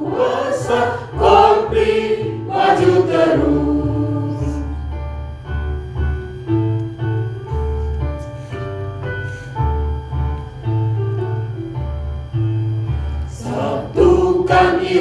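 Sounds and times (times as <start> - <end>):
piano march melody: 0.0 - 15.0.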